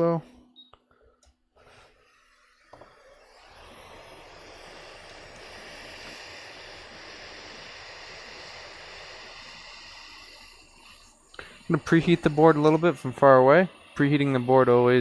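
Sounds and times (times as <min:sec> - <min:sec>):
hot air blower hissing: 0:01.6 - 0:15.0.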